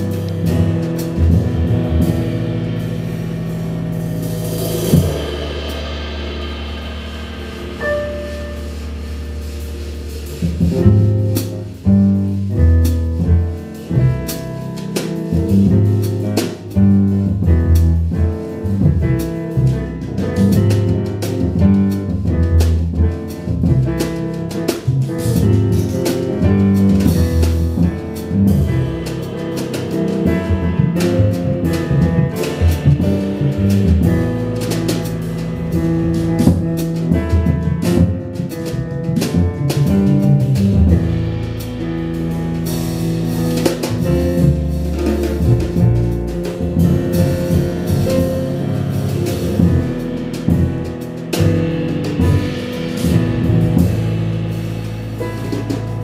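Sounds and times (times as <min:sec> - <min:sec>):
double bass: 0:00.0 - 0:56.0
drum kit with cymbals: 0:00.0 - 0:56.0
grand piano: 0:00.0 - 0:56.0.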